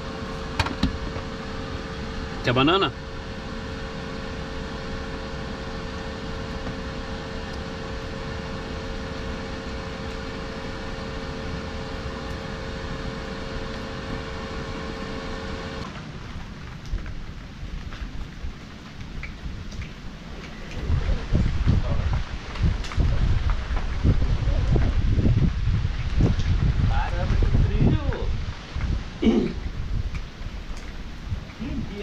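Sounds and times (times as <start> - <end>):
machine hum with pitched tone: 0.0 - 27.7
rain on wet surface: 0.0 - 32.0.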